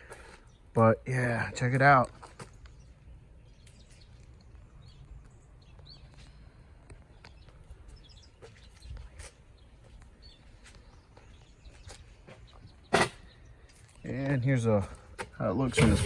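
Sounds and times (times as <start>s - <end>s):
bird chirps: 2.3s - 16.0s.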